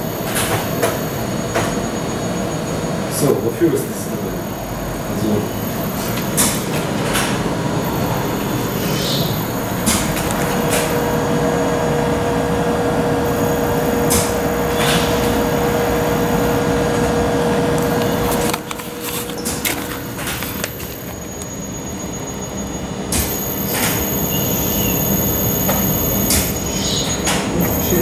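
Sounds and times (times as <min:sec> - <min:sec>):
machine running noise: 0:00.0 - 0:28.0
machine hum: 0:04.0 - 0:28.0.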